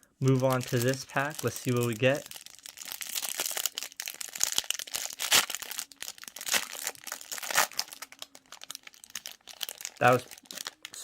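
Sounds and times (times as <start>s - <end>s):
plastic wrapper crinkling and tearing: 0.2s - 11.0s.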